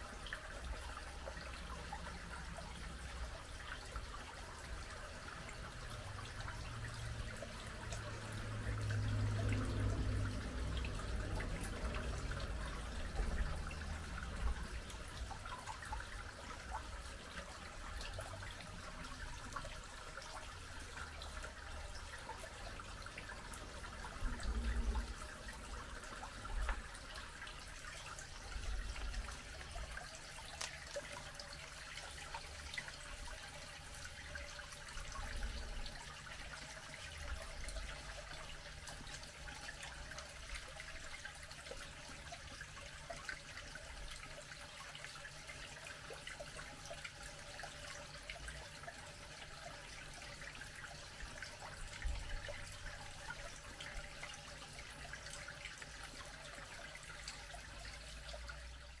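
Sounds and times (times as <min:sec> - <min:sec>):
water trickling into pool: 0:00.0 - 0:59.0.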